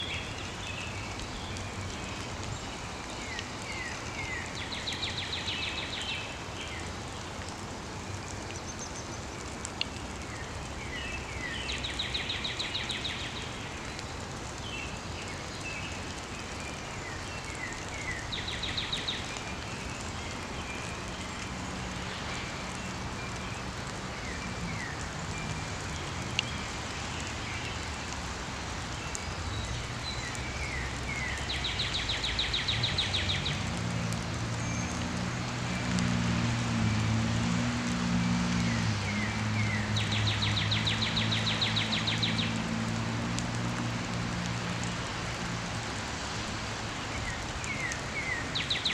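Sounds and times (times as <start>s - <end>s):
songbird singing: 0.0s - 7.4s, 8.2s - 37.4s, 38.0s - 43.0s, 46.1s - 48.9s.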